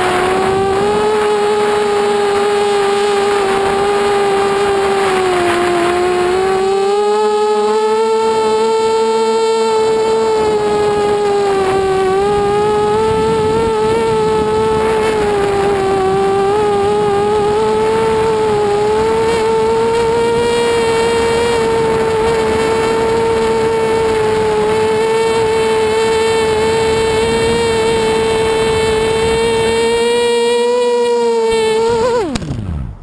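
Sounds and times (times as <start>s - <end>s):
quadcopter motors whining: 0.0s - 33.0s.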